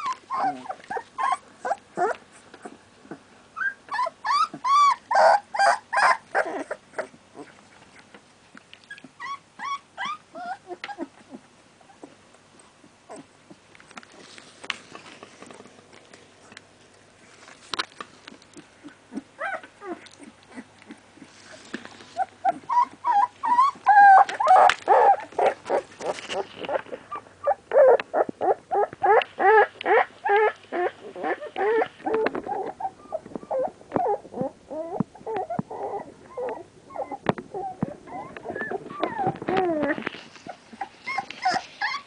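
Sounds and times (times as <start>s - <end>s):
puppies whimpering and squealing: 0.0s - 8.0s, 8.8s - 12.2s, 18.5s - 42.0s.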